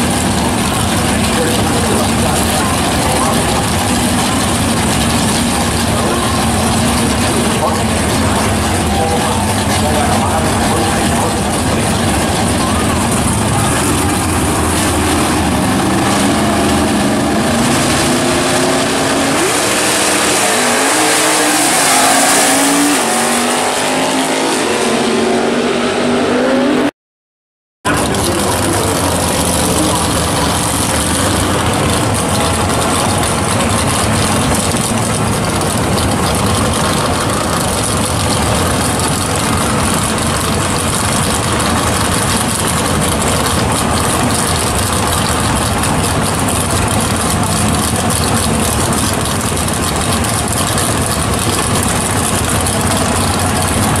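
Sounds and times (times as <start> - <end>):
drag car engines running loud: 0.0 - 26.9, 27.9 - 54.0
drag cars revving and pulling away: 0.0 - 26.9, 27.9 - 54.0.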